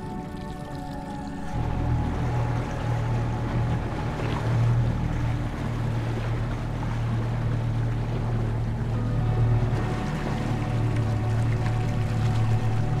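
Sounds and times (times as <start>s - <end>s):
outboard motor droning: 0.0s - 13.0s
water noise: 0.0s - 13.0s.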